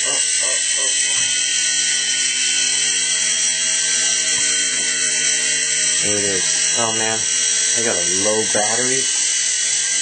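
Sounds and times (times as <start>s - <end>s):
rc helicopter motor whirring: 0.0s - 10.0s.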